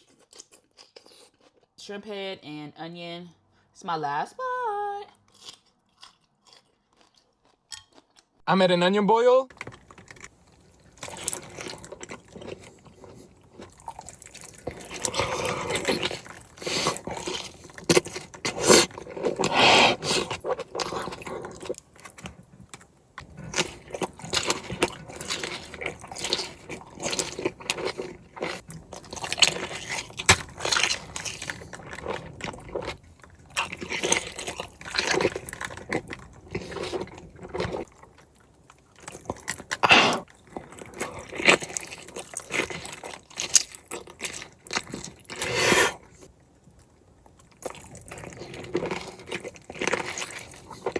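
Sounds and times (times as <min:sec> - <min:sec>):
wet chewing and smacking: 0:00.0 - 0:01.8, 0:05.1 - 0:08.4, 0:09.5 - 0:50.9.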